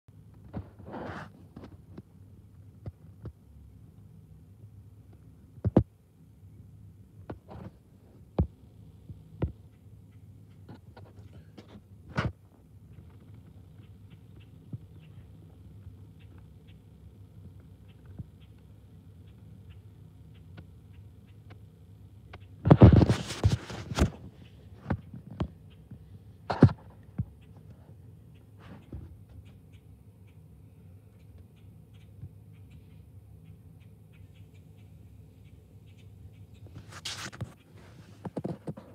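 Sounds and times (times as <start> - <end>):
low steady hum: 0.1 - 38.9.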